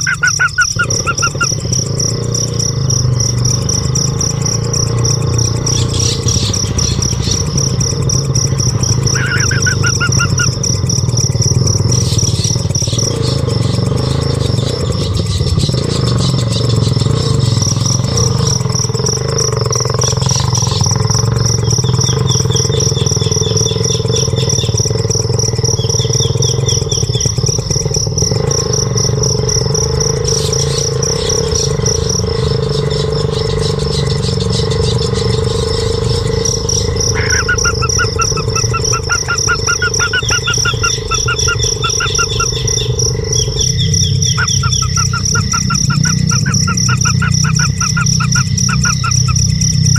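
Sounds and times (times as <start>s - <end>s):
birds chirping: 0.0s - 28.5s, 29.8s - 49.9s
insect trilling: 0.0s - 49.9s.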